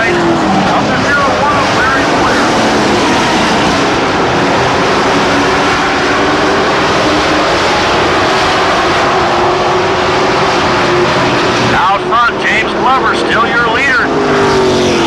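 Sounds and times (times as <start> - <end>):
race truck engines at speed: 0.0 - 15.0.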